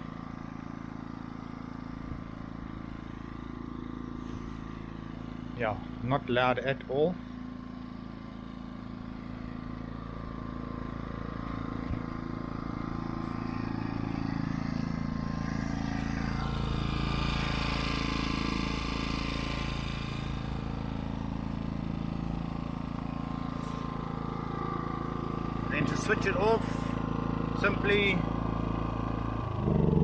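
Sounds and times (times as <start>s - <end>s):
generator engine humming: 0.0s - 30.0s.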